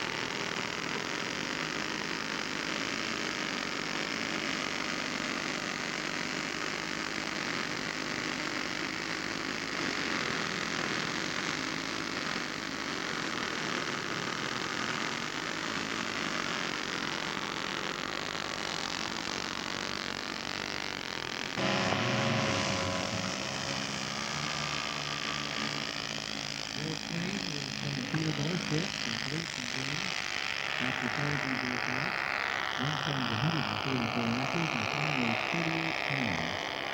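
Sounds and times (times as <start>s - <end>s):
model airplane propeller engine: 0.0s - 36.9s.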